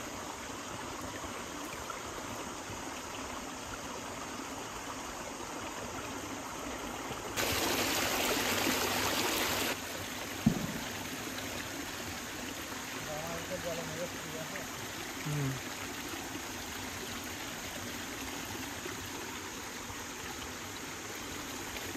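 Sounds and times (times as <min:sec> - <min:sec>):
shallow water trickling: 0:00.0 - 0:21.9.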